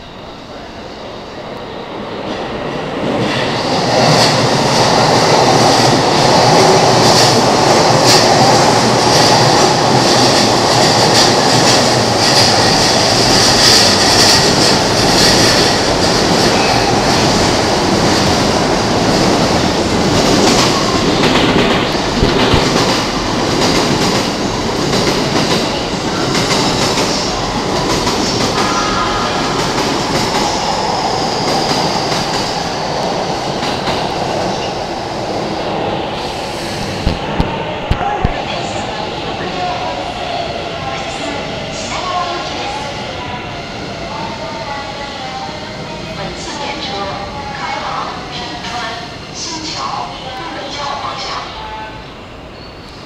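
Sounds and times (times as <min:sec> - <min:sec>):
electric train running past: 0:00.0 - 0:53.0.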